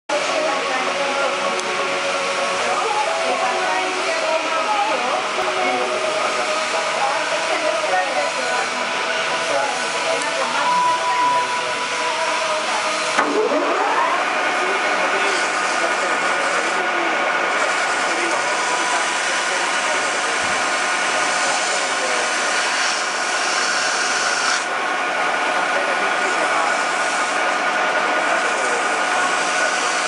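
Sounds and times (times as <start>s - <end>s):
metal lathe whining: 0.1s - 30.0s.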